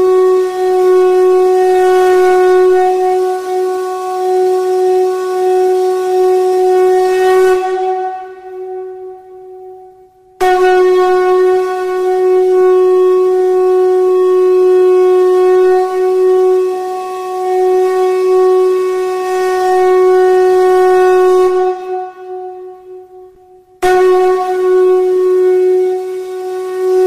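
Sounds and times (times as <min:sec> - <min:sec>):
long horn-like note: 0:00.0 - 0:09.8, 0:10.4 - 0:27.0.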